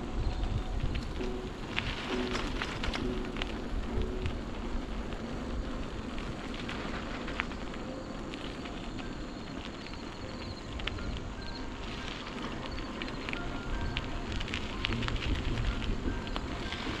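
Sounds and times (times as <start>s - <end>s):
bicycle tyres on rough pavement: 0.0s - 17.0s
wind on microphone: 0.0s - 17.0s.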